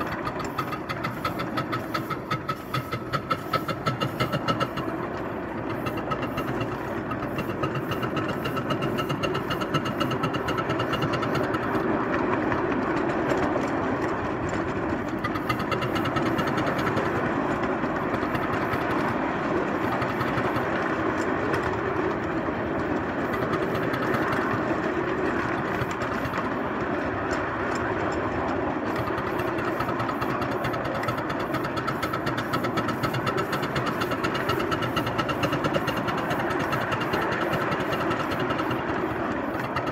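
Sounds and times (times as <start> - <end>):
model locomotive running: 0.0 - 39.9.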